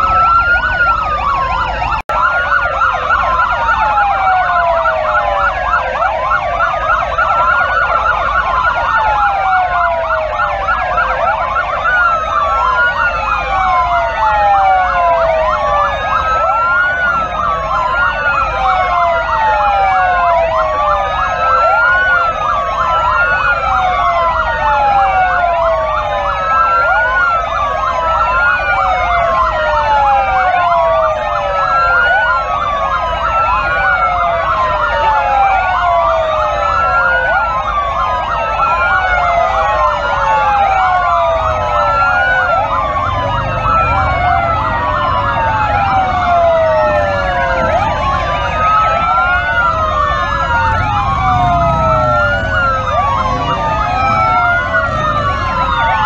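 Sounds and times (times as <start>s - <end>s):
motorcycle engines rumbling: 0.0s - 56.0s
police motorcycle sirens wailing: 0.0s - 56.0s.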